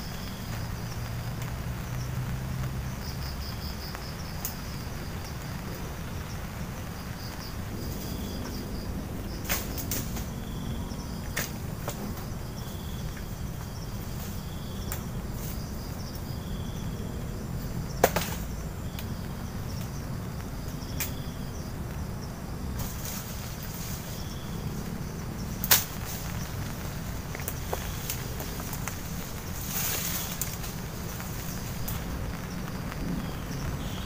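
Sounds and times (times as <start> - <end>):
high insect-like chirp: 0.0 - 34.0
low forest rumble: 0.0 - 34.0.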